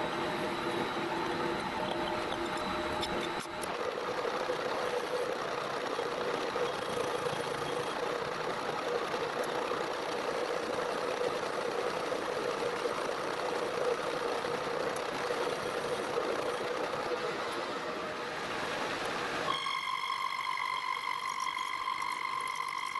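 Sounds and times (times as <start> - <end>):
metal lathe machining: 0.0 - 22.9.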